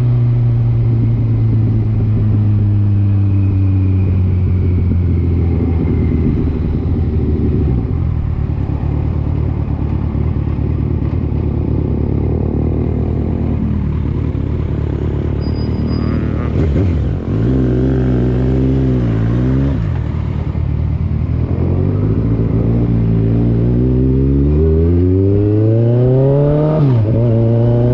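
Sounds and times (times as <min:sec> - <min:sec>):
road rumble: 0:00.0 - 0:27.9.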